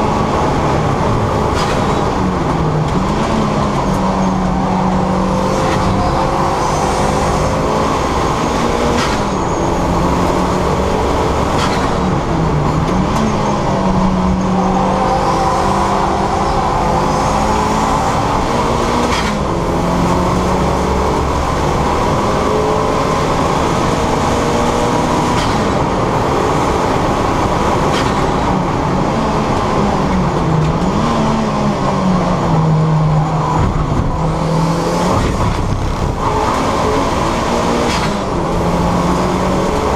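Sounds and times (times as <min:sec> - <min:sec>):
car engine running hard: 0:00.0 - 0:39.9
road and wind noise: 0:00.0 - 0:39.9.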